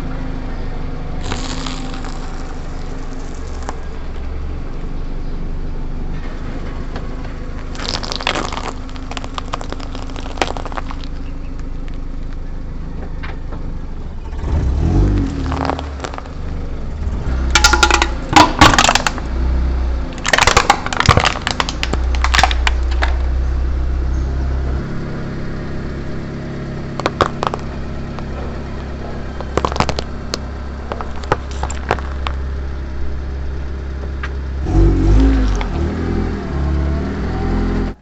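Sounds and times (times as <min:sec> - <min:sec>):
car engine humming: 0:00.0 - 0:38.0
car tyre crushing crunchy objects: 0:01.2 - 0:38.0.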